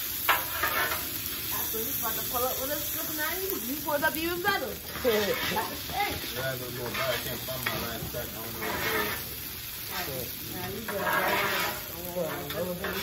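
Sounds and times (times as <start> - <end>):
food sizzling on a griddle: 0.0 - 13.0
voices talking: 1.5 - 13.0.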